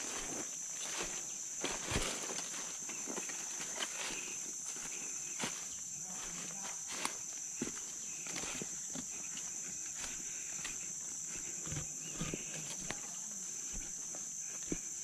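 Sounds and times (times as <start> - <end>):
footsteps crunching through undergrowth: 0.0 - 15.0
insects droning: 0.0 - 15.0.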